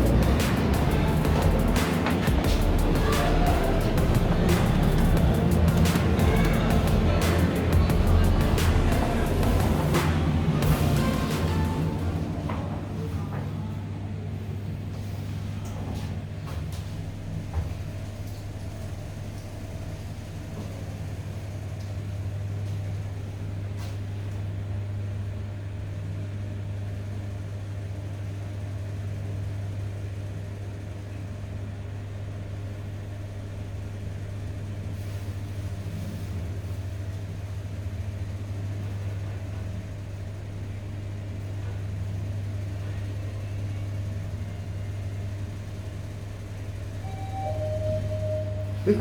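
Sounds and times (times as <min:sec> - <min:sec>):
lift car drive humming: 0:00.0 - 0:27.3, 0:30.7 - 0:49.0.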